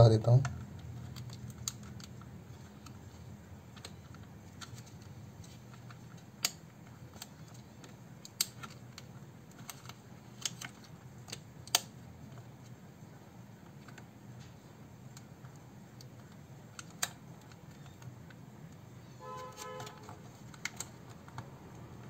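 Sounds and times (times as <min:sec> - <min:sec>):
plastic keyboard parts clicking: 0:00.3 - 0:03.0, 0:03.6 - 0:12.8, 0:13.6 - 0:18.8, 0:19.6 - 0:22.0.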